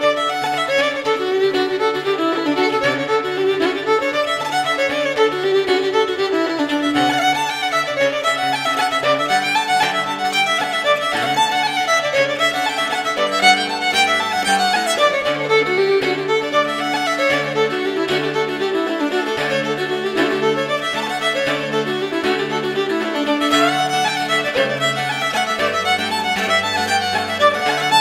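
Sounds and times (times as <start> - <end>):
fiddle playing reels: 0.0 - 28.0.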